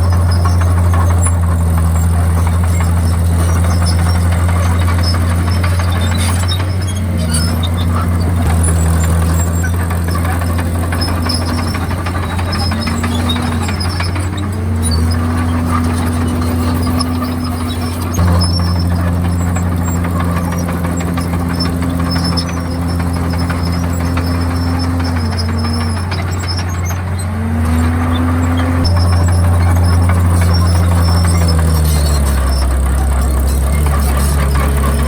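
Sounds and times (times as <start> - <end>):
bulldozer diesel engine under load: 0.0 - 35.0.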